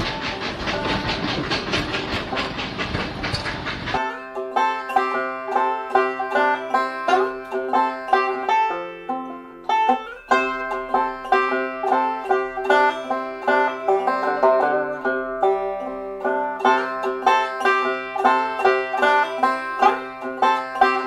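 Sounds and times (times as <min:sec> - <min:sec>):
plucked string music: 0:03.9 - 0:21.0.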